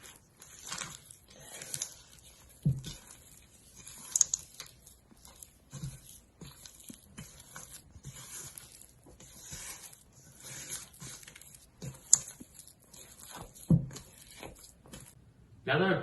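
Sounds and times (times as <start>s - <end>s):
spatula stirring thick batter: 0.0s - 15.3s.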